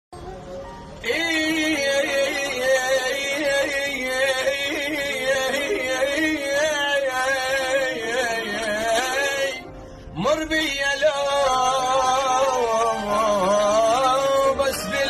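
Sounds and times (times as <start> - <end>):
ornamented melody with sliding notes: 0.2 - 15.0
steady musical accompaniment: 0.2 - 15.0.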